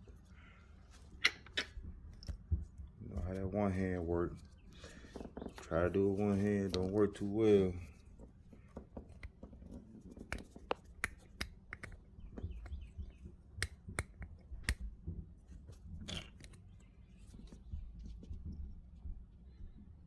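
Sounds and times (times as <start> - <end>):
hands handling wiring and plastic: 0.0 - 18.8.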